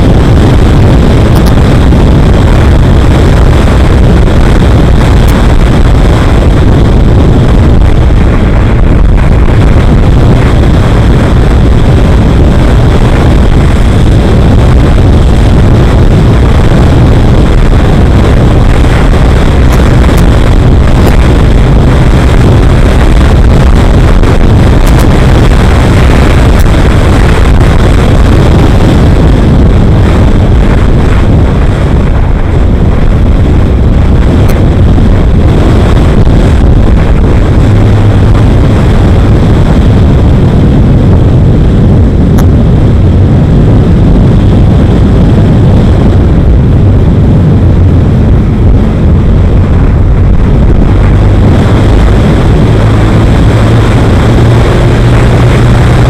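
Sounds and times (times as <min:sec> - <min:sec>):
road and vehicle noise: 0:00.0 - 0:56.0
wind buffeting microphone: 0:00.0 - 0:56.0.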